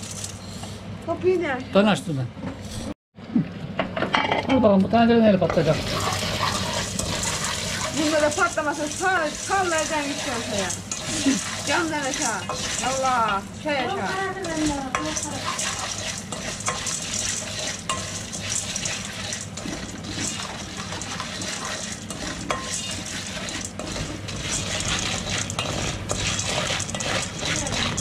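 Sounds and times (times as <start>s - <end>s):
oil sizzling in pot: 0.0s - 0.8s, 5.4s - 28.0s.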